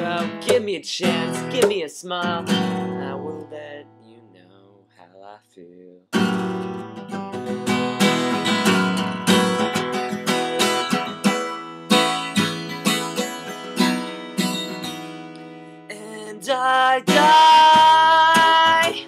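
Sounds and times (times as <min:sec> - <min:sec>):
acoustic guitar strumming chords: 0:00.0 - 0:04.6, 0:06.1 - 0:19.0.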